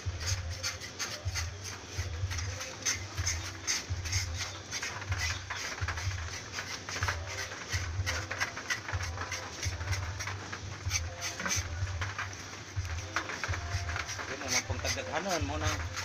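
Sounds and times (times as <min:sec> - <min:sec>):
blade scraping hide: 0:00.0 - 0:16.0.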